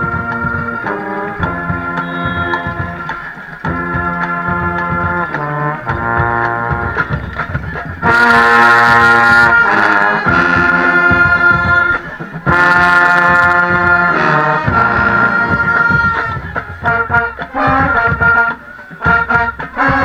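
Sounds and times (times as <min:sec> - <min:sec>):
brass band playing: 0:00.0 - 0:20.0
loud held brass chords: 0:00.0 - 0:20.0.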